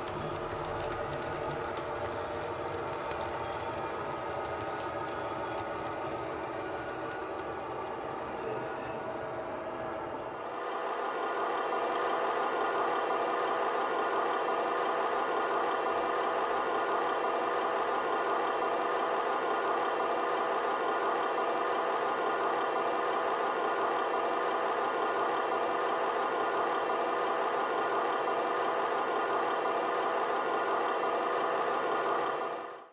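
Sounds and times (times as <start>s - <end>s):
diesel engine idle through speaker: 0.0s - 32.7s.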